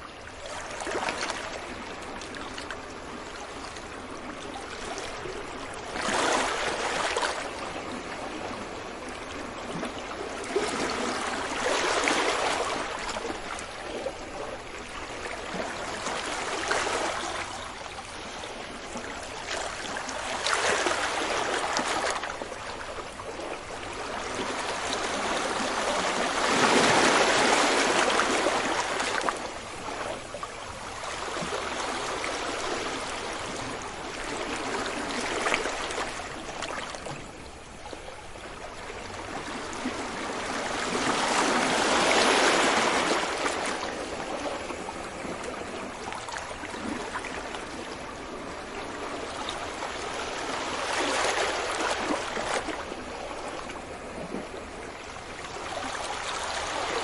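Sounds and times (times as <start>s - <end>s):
ocean waves breaking: 4.8s - 37.8s, 38.6s - 57.0s.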